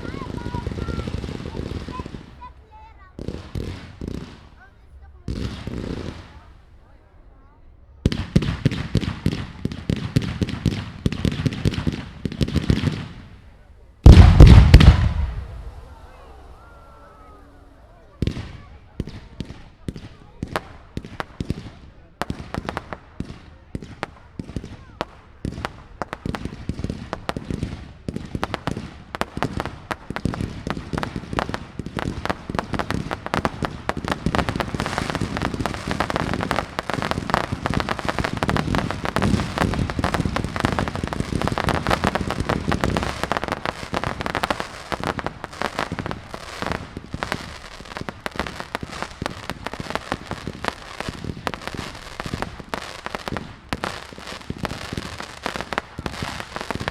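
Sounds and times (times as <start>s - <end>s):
fireworks cracking and popping: 0.0s - 7.0s, 8.0s - 56.9s.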